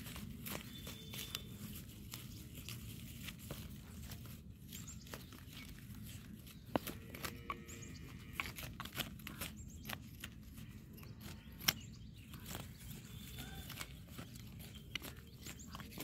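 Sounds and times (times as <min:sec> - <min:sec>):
dry soil and weeds crackling: 0:00.0 - 0:16.0.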